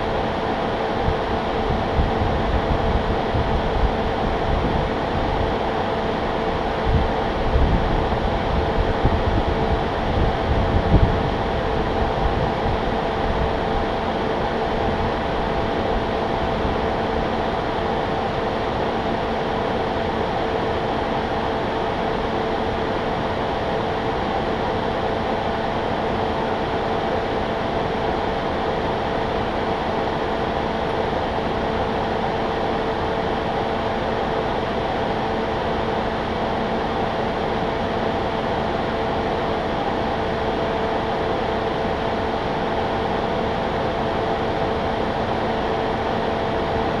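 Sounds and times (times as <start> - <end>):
rushing fan noise: 0.0 - 47.0
steady mechanical hum: 0.0 - 47.0.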